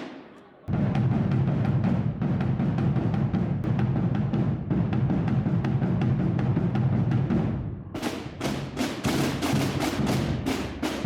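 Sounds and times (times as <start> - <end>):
massed snare and bass drums: 0.0 - 11.0.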